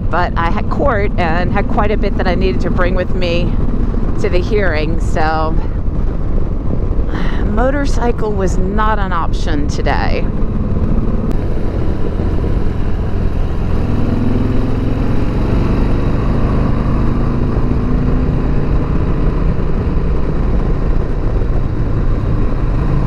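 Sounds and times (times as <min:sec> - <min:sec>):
motorcycle engine running: 0:00.0 - 0:23.0
wind noise on microphone: 0:00.0 - 0:23.0.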